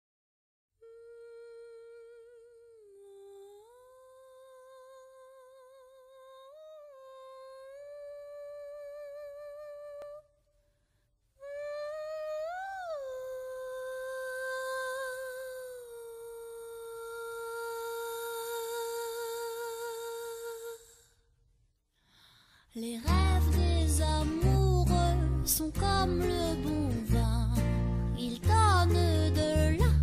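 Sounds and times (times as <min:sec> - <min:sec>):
person humming: 0:00.8 - 0:10.2, 0:11.4 - 0:21.0, 0:22.8 - 0:30.0.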